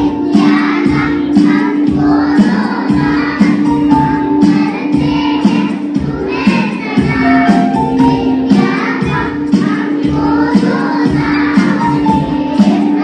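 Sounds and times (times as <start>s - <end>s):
children singing: 0.0s - 13.0s
steady beat: 0.0s - 13.0s.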